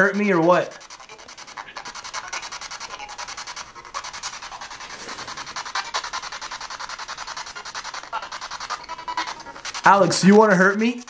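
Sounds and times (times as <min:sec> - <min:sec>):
radio static stuttering: 0:00.0 - 0:11.0.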